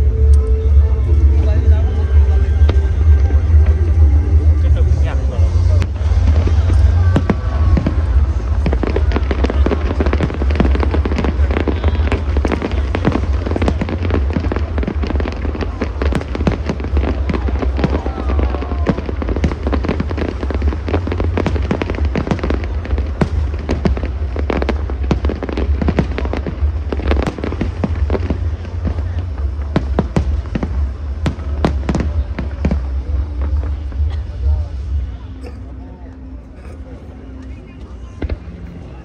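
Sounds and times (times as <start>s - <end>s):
deep rumble of booms: 0.9s - 35.2s
fireworks cracking and popping: 2.6s - 35.0s.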